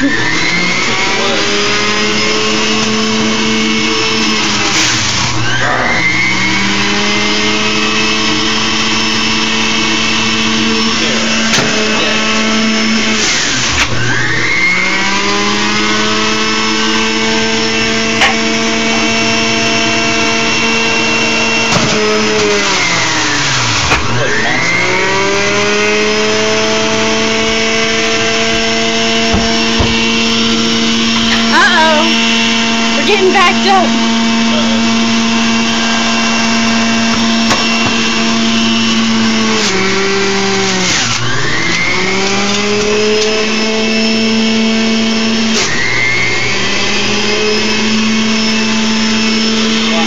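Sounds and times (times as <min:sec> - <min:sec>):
juicer motor whining: 0:00.0 - 0:50.0.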